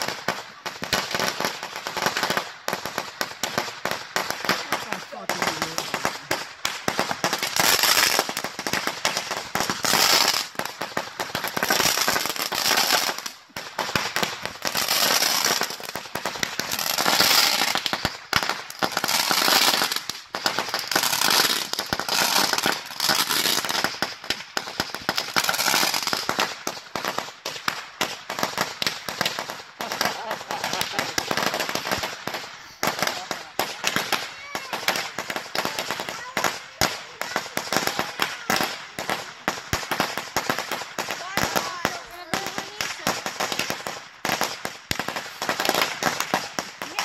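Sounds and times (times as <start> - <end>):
firecrackers crackling: 0.0 - 47.0.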